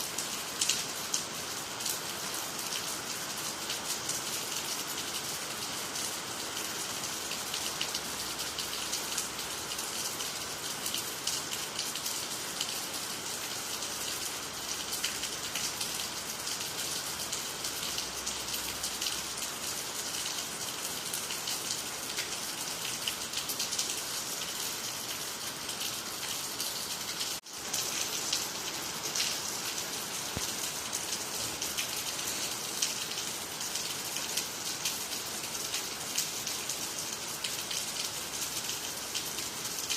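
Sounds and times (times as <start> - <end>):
rain falling on water and trees: 0.0 - 39.9.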